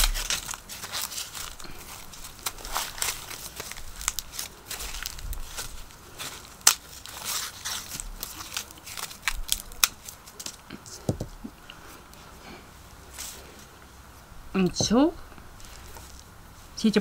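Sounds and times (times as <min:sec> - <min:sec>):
husks crackling and rustling: 0:00.0 - 0:17.0.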